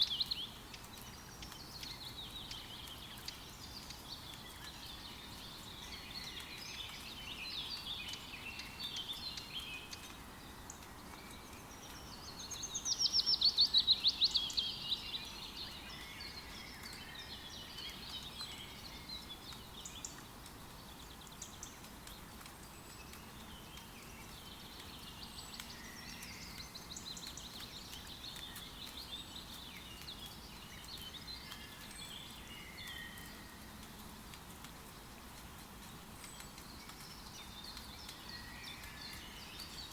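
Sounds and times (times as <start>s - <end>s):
light rain hiss: 0.0s - 39.9s.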